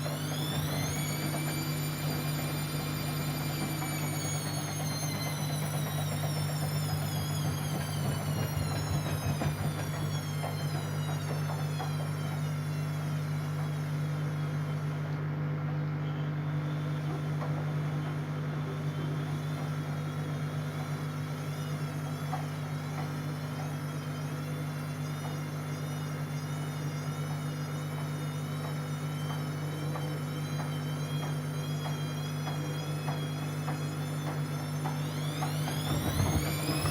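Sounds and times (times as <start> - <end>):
buzzing whine: 0.0 - 36.9
washing machine hum: 0.0 - 36.9.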